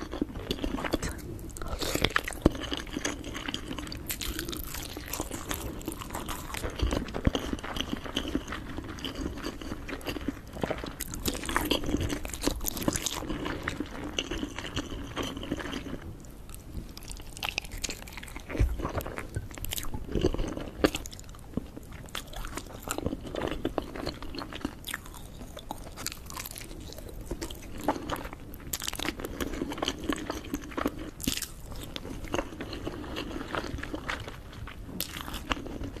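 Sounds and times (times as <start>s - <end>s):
biting and chewing egg: 0.0s - 36.0s.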